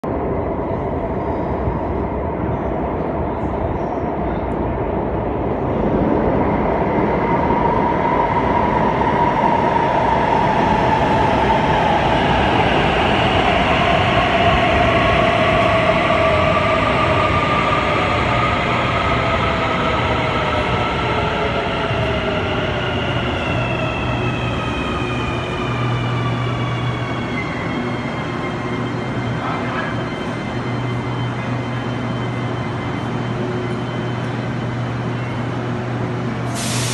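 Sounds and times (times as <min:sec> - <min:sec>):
train wheels rumbling on rails: 0:00.1 - 0:36.9.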